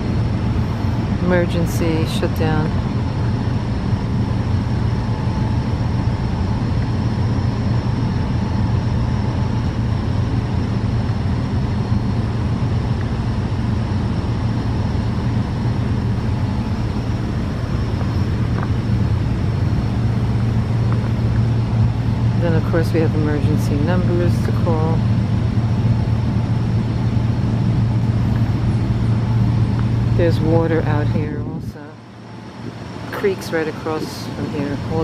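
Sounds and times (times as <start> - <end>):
compressor machinery humming: 0.0 - 35.0.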